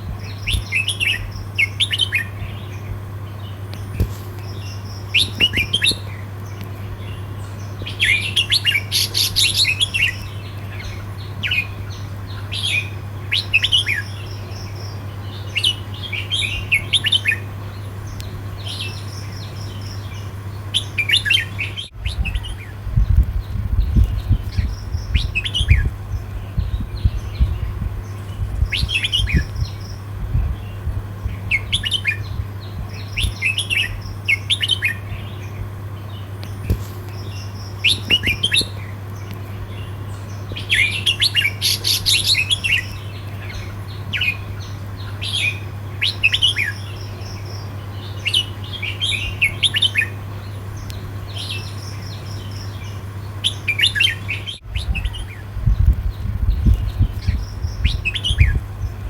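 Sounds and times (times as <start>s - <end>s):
bird warbling song: 0.0s - 59.0s
steady low hum: 0.0s - 59.0s.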